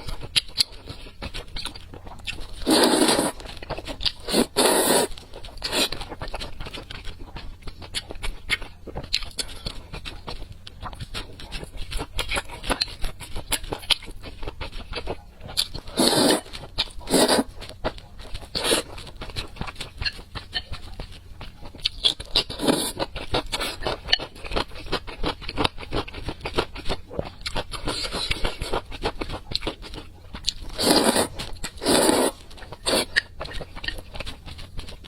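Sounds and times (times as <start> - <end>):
food chewed and crunched: 0.0 - 35.0.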